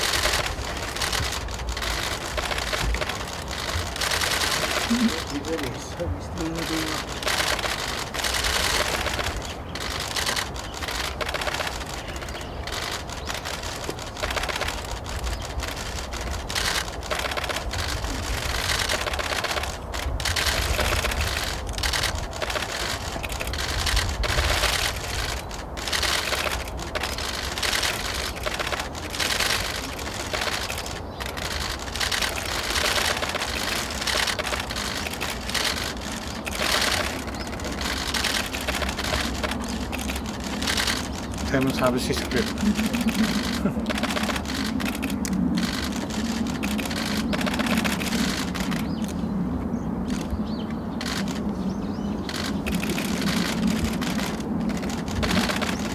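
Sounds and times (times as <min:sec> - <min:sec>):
camera shutters clicking: 0:00.0 - 0:49.2, 0:50.1 - 0:50.4, 0:51.0 - 0:51.4, 0:52.2 - 0:55.9
steady low rumble: 0:00.0 - 0:55.9.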